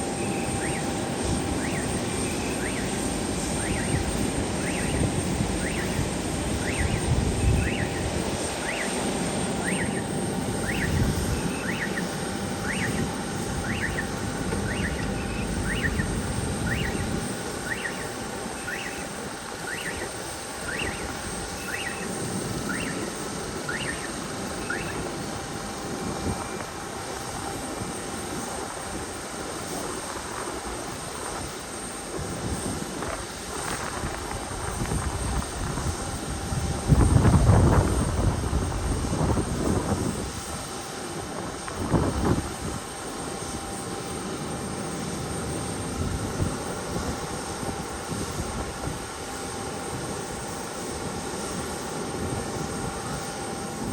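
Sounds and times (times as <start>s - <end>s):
aircraft engine rumble: 0.0s - 53.9s.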